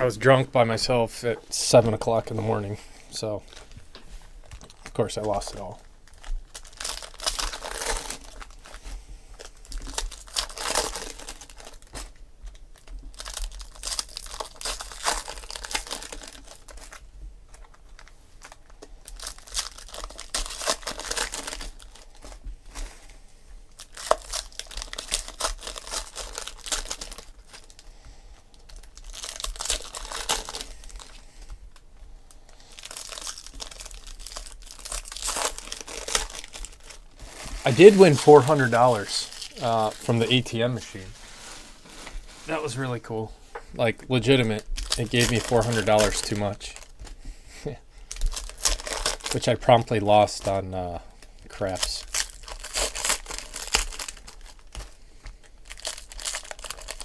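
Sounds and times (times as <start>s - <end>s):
foil wrappers tearing and crinkling: 4.4s - 23.1s, 23.7s - 27.9s, 28.5s - 31.2s, 32.5s - 42.9s, 44.1s - 47.2s, 48.0s - 50.7s, 51.3s - 57.0s.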